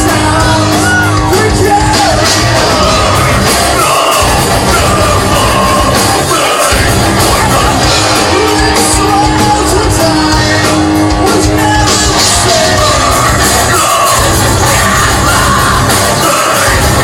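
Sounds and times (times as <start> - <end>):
live rock band playing: 0.0 - 17.0
singer's vocal: 0.0 - 17.0.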